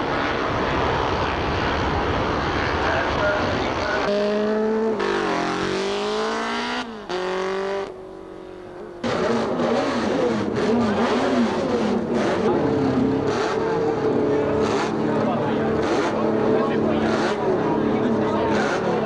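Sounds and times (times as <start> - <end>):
racing motorcycle engines revving: 0.0 - 19.0.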